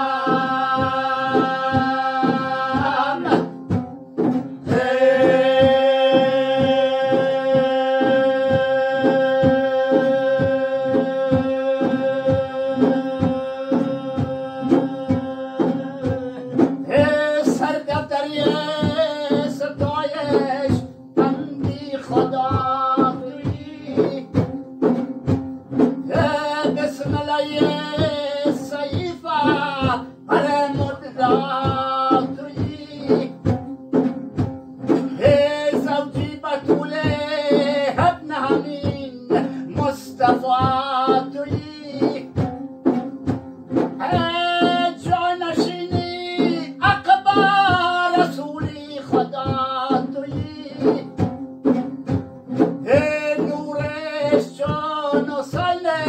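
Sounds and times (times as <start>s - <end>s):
drum beat: 0.0s - 56.0s
man singing: 0.0s - 56.0s.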